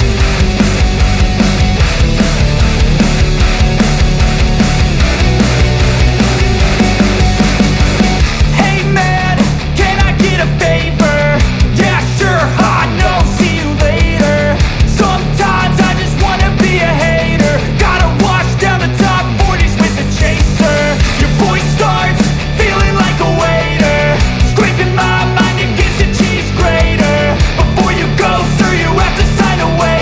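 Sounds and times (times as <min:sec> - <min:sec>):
rock music: 0:00.0 - 0:30.0.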